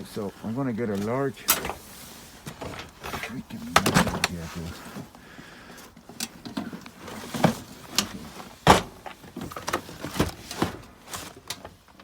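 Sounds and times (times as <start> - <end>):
boxes and small parts clattering: 0.0 - 12.0.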